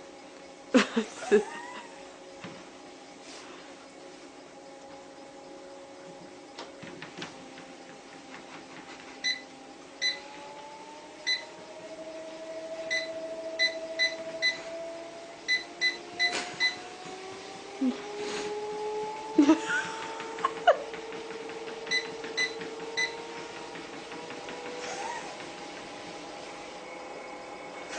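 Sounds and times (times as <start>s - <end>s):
treadmill motor whine rising: 0.0s - 27.9s.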